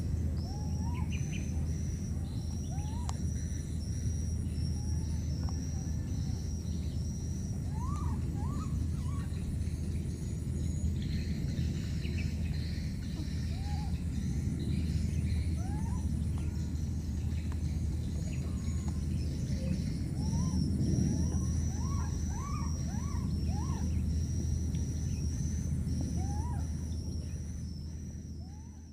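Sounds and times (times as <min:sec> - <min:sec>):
faint high chirps: 0:00.0 - 0:28.9
steady low rumble: 0:00.0 - 0:28.9
rising and falling chirping calls: 0:00.4 - 0:10.2, 0:10.8 - 0:28.9.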